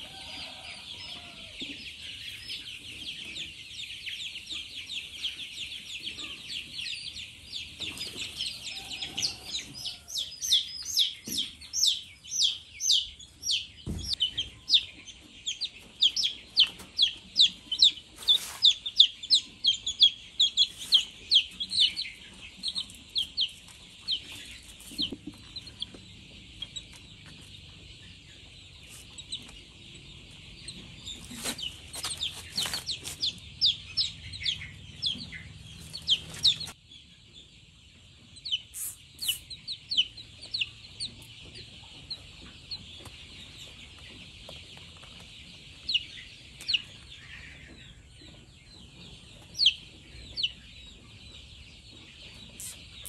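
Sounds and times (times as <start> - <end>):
fowl chirping: 0.0 - 53.0.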